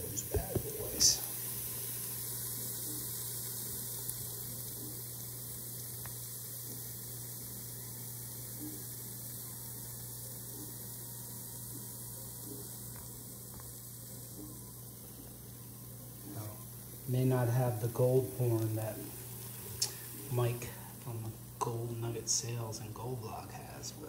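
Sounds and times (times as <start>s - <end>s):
faint hiss: 0.0s - 24.0s
low electrical hum: 0.0s - 24.0s.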